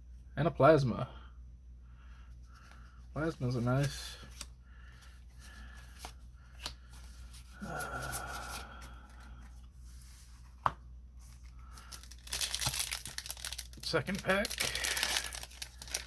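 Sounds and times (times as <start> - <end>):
trading cards rustling and clicking: 2.6 - 16.0.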